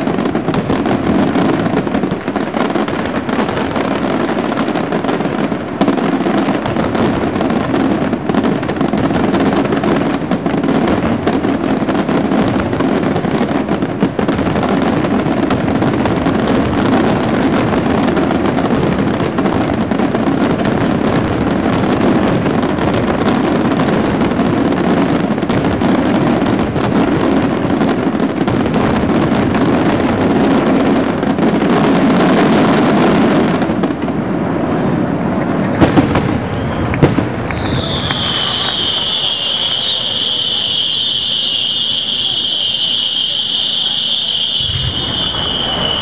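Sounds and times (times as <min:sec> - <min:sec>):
fireworks bursts and crackling: 0:00.0 - 0:46.0
sharp firework bangs: 0:00.0 - 0:46.0.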